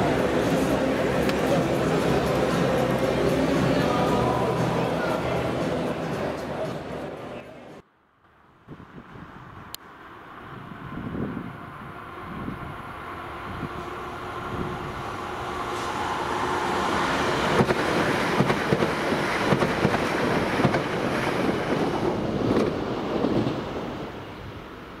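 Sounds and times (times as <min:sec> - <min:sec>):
electric train passing: 0:00.0 - 0:07.8, 0:08.9 - 0:25.0.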